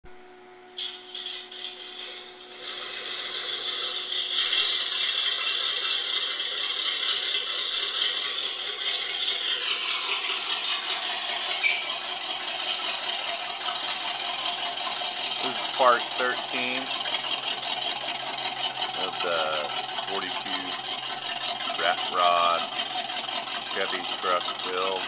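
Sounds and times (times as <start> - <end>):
steady mechanical rattling: 0.8 - 25.0.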